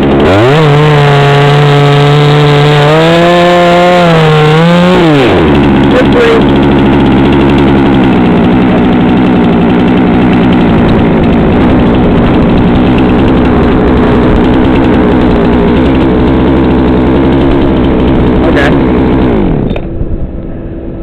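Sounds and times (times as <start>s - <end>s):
chainsaw idling: 0.0s - 20.0s.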